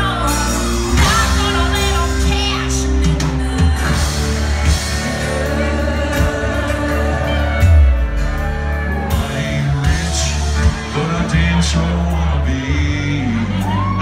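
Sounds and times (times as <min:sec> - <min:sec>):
bass: 0:00.0 - 0:14.0
drums: 0:00.0 - 0:14.0
electric guitar: 0:00.0 - 0:14.0
person singing: 0:00.0 - 0:14.0.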